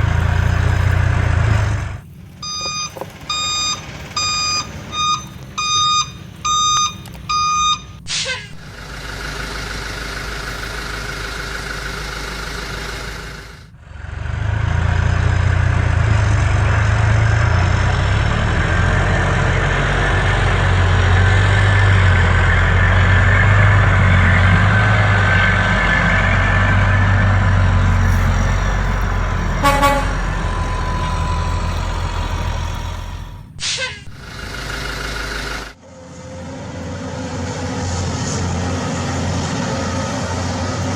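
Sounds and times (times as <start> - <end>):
truck reversing beeps: 0.0 - 35.8
diesel truck engine rumble: 0.0 - 36.1.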